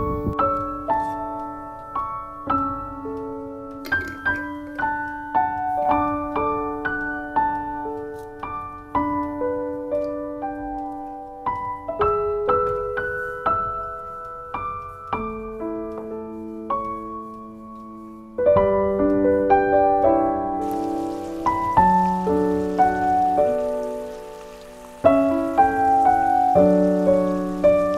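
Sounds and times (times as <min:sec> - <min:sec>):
slow solo piano: 0:00.0 - 0:27.9.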